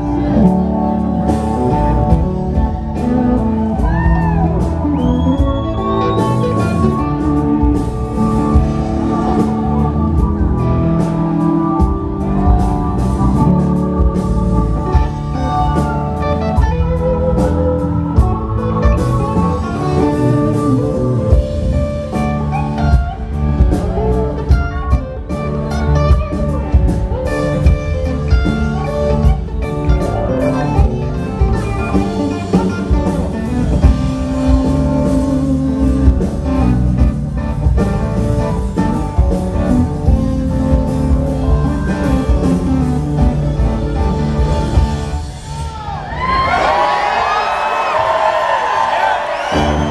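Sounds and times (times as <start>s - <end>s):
electric guitar lead: 0.0s - 46.9s
bass: 0.0s - 49.9s
drums: 0.0s - 49.9s.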